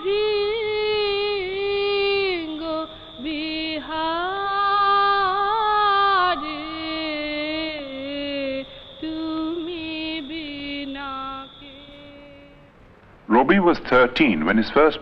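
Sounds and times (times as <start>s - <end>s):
boy singing devotional song: 0.0s - 12.7s.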